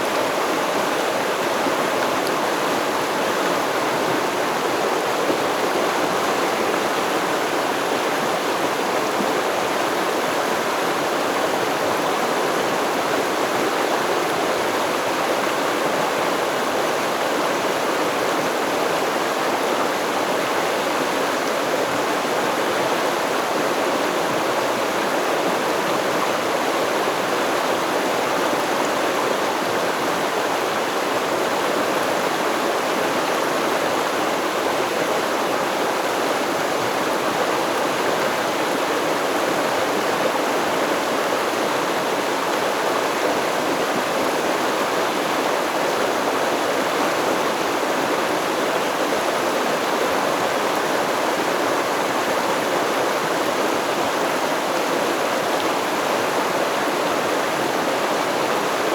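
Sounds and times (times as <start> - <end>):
stream babbling over rocks: 0.0 - 58.9.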